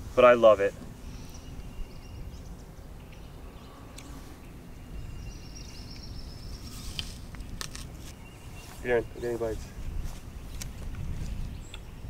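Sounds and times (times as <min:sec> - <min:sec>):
wind: 0:00.0 - 0:12.0
faint bird calls: 0:00.9 - 0:12.0.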